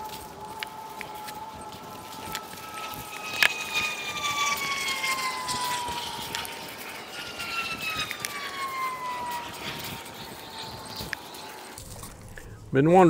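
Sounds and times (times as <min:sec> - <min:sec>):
distant siren wailing: 0:00.0 - 0:13.0.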